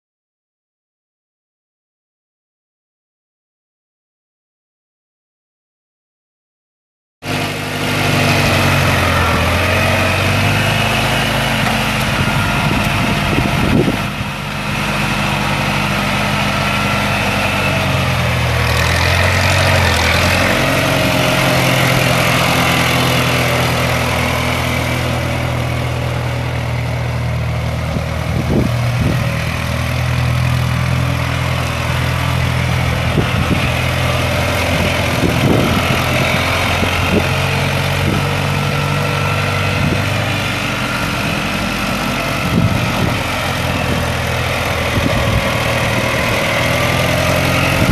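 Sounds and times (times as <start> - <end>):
tractor engine running: 7.2 - 47.9.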